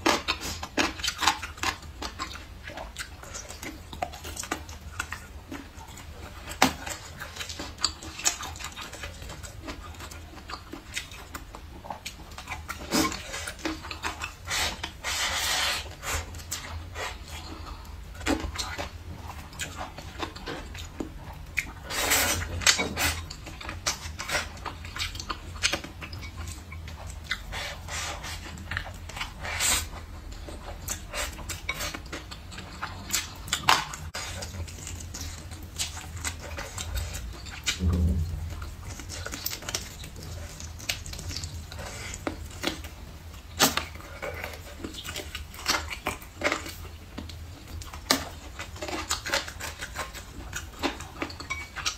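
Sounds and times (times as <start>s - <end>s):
chewing and wet mouth sounds: 0.0s - 51.9s.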